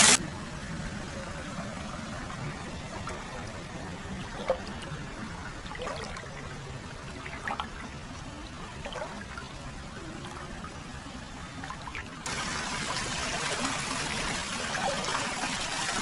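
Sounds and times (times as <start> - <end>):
water pouring and trickling: 1.4 - 16.0
small water splashes: 2.6 - 16.0.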